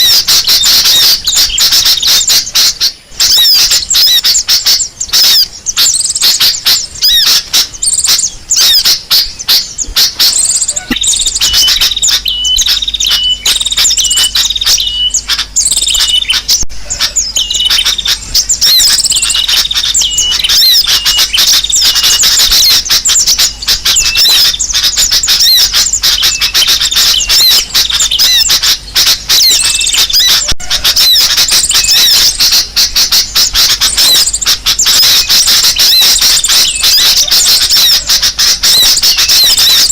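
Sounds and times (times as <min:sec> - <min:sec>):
birds chirping and squawking: 0:00.0 - 0:39.9
repeating short bird notes: 0:00.0 - 0:39.9.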